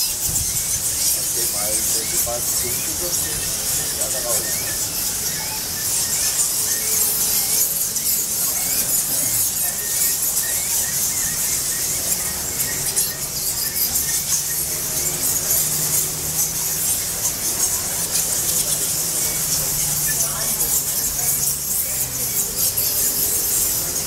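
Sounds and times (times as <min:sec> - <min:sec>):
bats chattering: 0:00.0 - 0:24.0.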